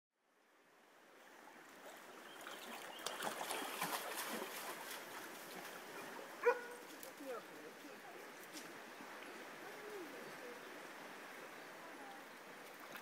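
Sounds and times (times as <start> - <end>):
stream babbling over stones: 1.0 - 13.0.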